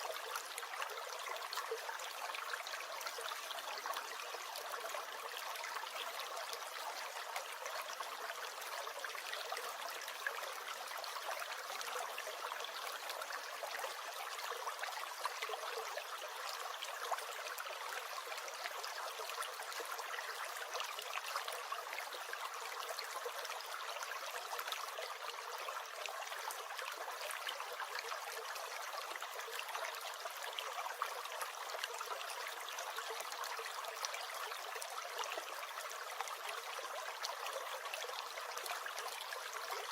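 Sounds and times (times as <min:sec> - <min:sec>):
small stream gurgling: 0:00.0 - 0:39.9.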